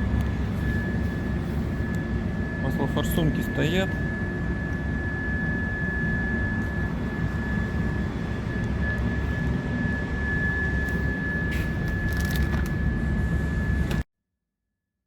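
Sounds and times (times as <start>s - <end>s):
high-pitched whine: 0.0s - 14.0s
low machine drone: 0.0s - 14.0s.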